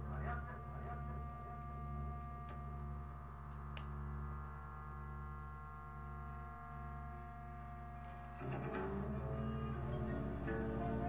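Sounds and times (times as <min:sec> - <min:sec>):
low drone hum: 0:00.0 - 0:11.0
sustained pure tones: 0:00.0 - 0:11.0.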